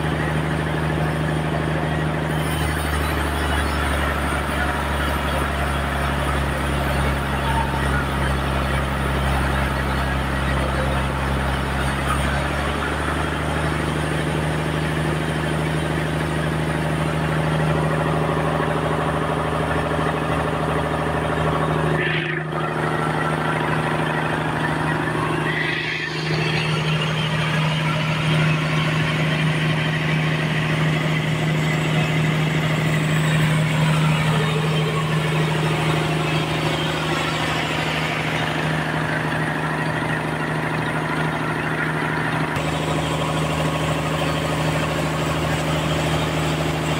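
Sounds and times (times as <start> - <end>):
sawmill drone and hiss: 0.0 - 46.9.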